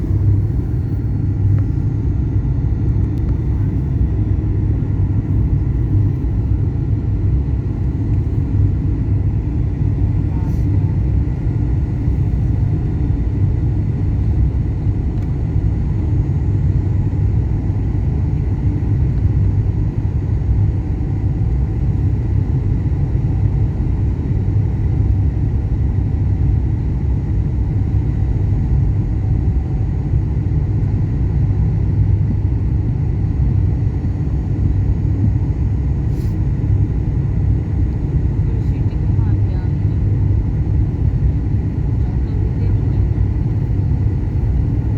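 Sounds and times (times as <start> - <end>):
faint steady whines: 0.0 - 44.9
jet engine cabin rumble: 0.0 - 44.9.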